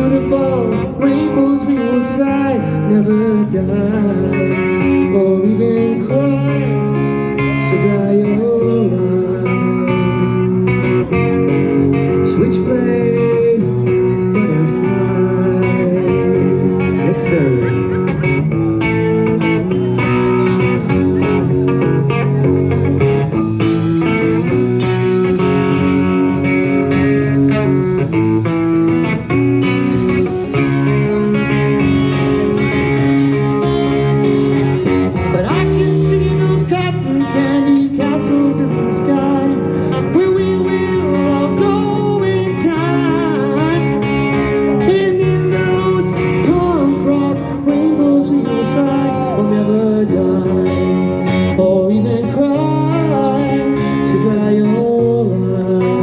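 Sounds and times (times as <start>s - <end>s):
electric guitar bending notes: 0.0s - 56.0s
live rock band playing: 0.0s - 56.0s.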